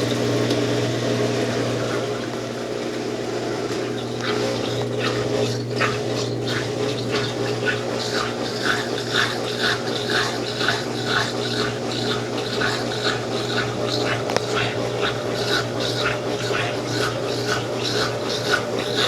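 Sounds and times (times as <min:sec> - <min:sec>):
washing machine motor hum: 0:00.0 - 0:19.0
water and laundry swishing: 0:01.5 - 0:19.0.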